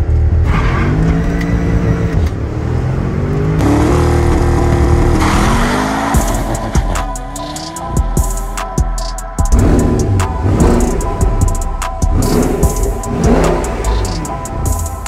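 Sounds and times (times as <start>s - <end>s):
car engine accelerating: 0.0s - 8.3s, 9.4s - 15.0s.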